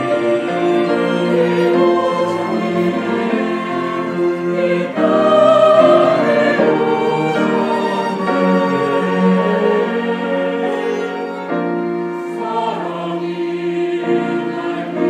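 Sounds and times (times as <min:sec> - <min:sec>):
mixed choir singing: 0:00.0 - 0:15.0
violin cellos flute and piano: 0:00.0 - 0:15.0.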